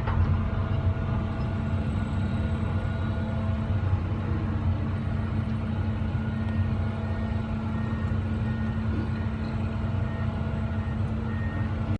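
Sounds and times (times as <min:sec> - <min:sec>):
excavator diesel engine droning: 0:00.0 - 0:11.9.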